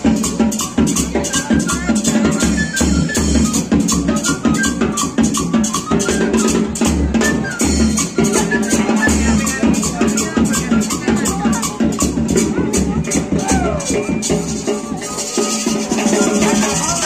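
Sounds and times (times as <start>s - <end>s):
upbeat festive music: 0.0s - 17.0s.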